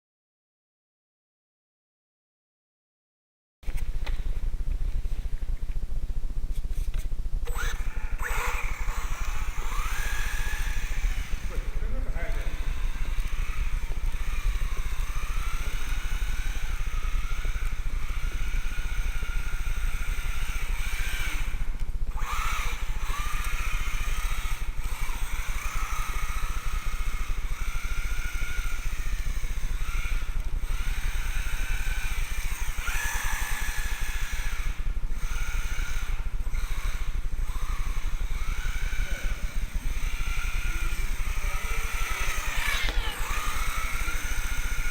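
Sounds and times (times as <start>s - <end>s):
electric motor whine: 6.7s - 44.9s.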